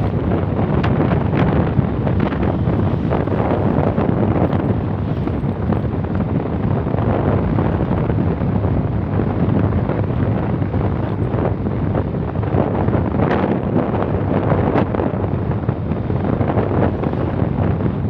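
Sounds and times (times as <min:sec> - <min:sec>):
road and engine noise: 0:00.0 - 0:18.0
wind buffeting microphone: 0:00.0 - 0:18.0.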